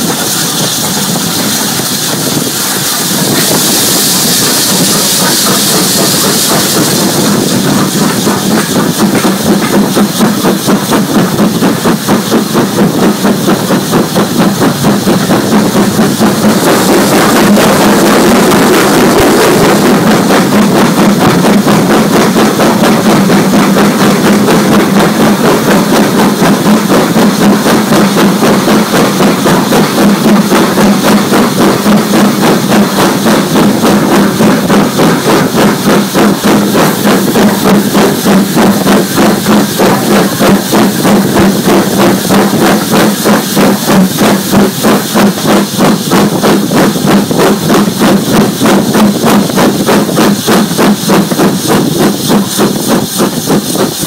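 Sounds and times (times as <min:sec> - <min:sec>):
steady drone: 0:00.0 - 0:54.0
steam locomotive exhaust beats: 0:00.0 - 0:54.0.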